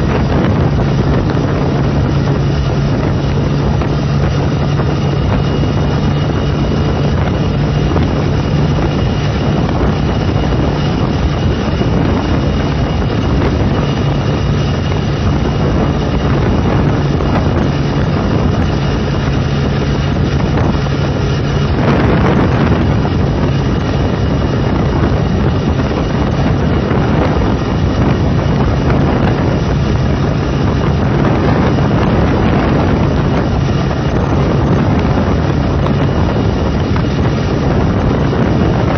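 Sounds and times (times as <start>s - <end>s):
motorcycle engine cruising: 0.0s - 38.9s
wind rush on microphone: 0.0s - 38.9s.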